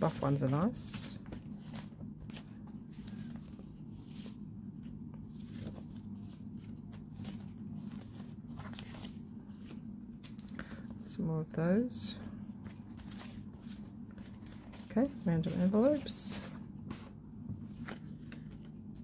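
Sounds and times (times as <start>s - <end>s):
paper rustling: 0.0s - 4.4s, 5.2s - 10.9s, 12.6s - 19.0s
steady low hum: 0.0s - 19.0s.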